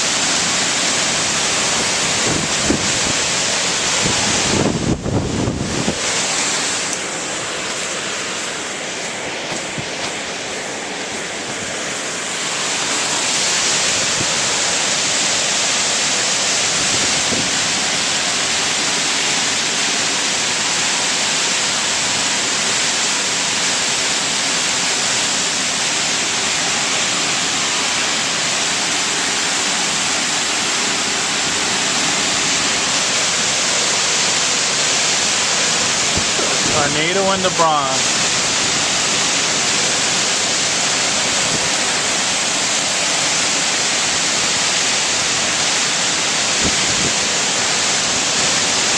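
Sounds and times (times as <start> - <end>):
heavy wind-driven rain: 0.0 - 48.9.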